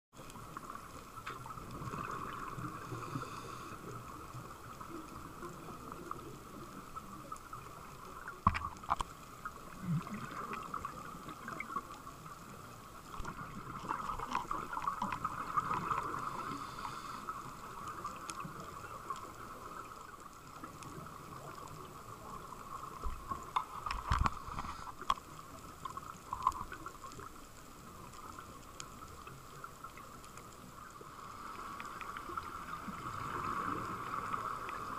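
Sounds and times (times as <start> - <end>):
underwater crackling hiss: 0.3 - 34.9.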